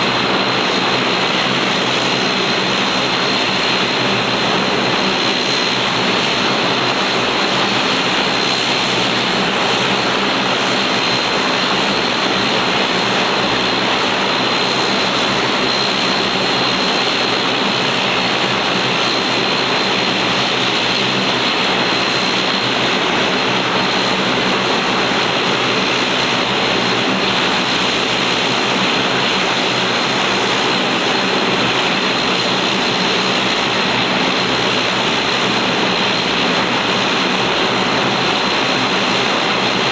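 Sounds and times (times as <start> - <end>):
high engine whine: 0.0 - 39.9
turboprop engines droning: 0.0 - 39.9.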